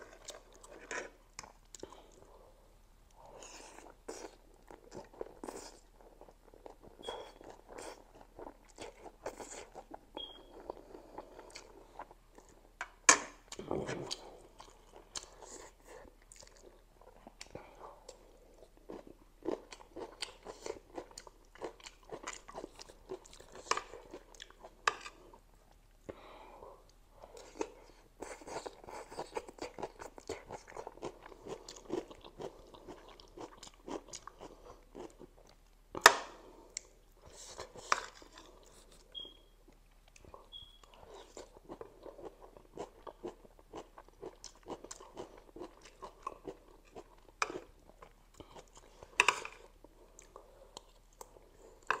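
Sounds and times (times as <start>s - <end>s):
close-miked chewing: 0.0s - 2.4s, 3.1s - 12.8s, 13.4s - 25.9s, 26.8s - 36.0s, 36.6s - 52.0s.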